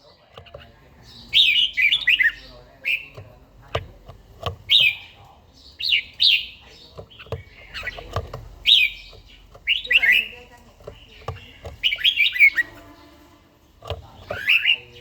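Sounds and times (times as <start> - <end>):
sharp taps: 0.3 - 13.0, 13.7 - 14.7
bird singing whistled notes: 0.5 - 3.2, 4.6 - 13.4, 14.1 - 15.0.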